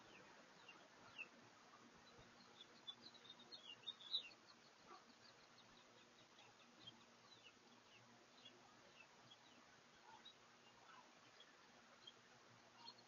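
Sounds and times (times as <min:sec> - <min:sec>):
low steady hiss: 0:00.0 - 0:13.0
small birds chirping: 0:00.0 - 0:13.0.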